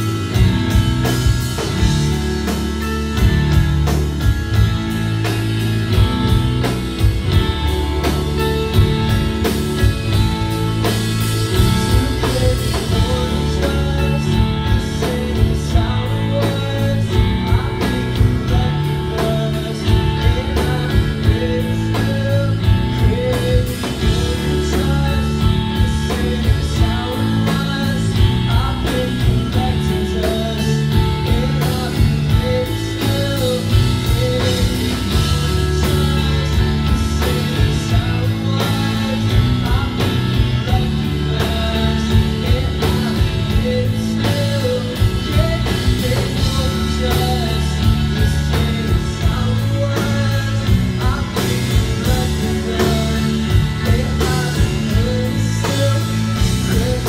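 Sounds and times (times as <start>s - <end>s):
drum kit: 0.0s - 57.0s
electric bass: 0.0s - 57.0s
electric guitars: 0.0s - 57.0s
man singing: 5.9s - 57.0s.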